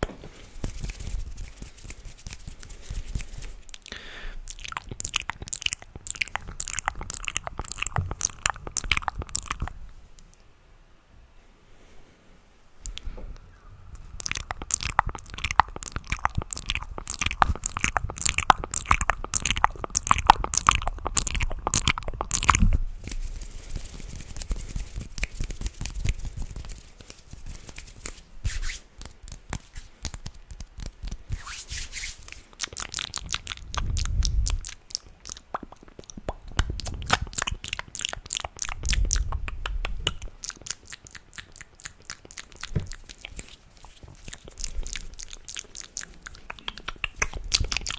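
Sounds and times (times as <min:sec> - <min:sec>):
wet mouth clicks and smacks: 0:00.5 - 0:10.4, 0:12.8 - 0:13.1, 0:13.9 - 0:47.9.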